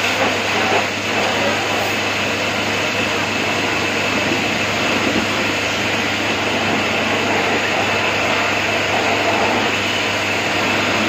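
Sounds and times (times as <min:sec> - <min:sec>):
pressure washer spraying: 0:00.0 - 0:11.0.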